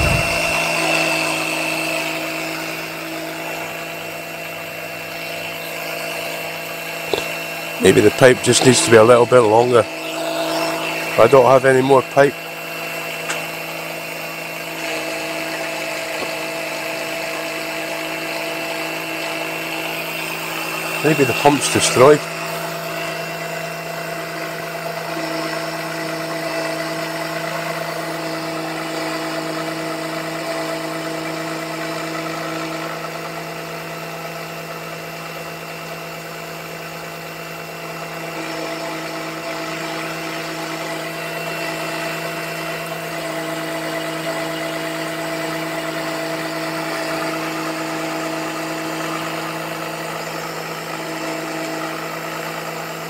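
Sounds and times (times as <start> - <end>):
suction pump humming: 0.0 - 53.0.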